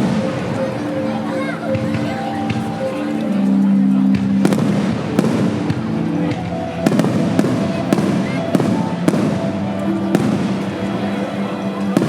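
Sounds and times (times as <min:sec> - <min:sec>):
music with held notes: 0:00.0 - 0:12.0
fireworks bursting with sharp bangs: 0:01.7 - 0:12.0.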